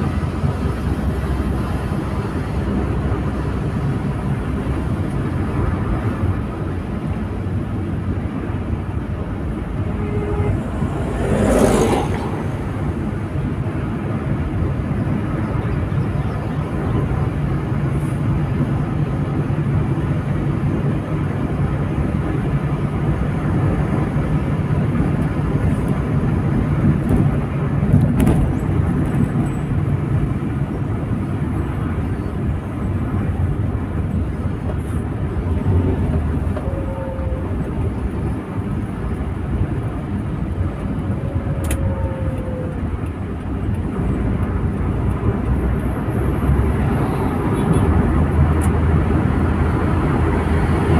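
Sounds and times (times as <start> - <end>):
road and engine noise in car: 0.0 - 50.9.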